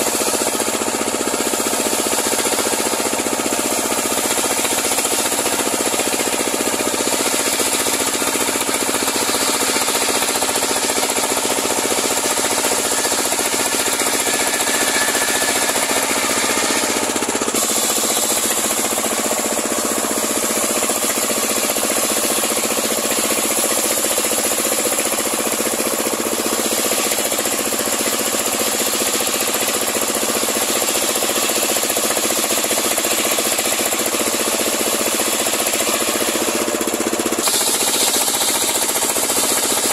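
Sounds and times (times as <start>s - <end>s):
sawmill blade ripping a log: 0.1s - 30.2s, 30.8s - 39.9s.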